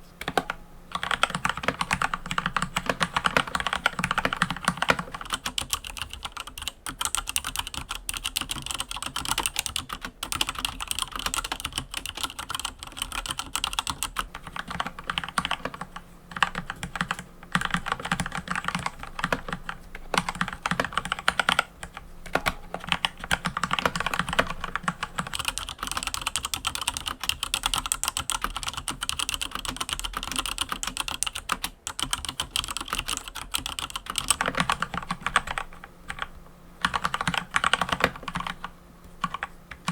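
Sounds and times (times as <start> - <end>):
mechanical keyboard typing: 0.2 - 39.9.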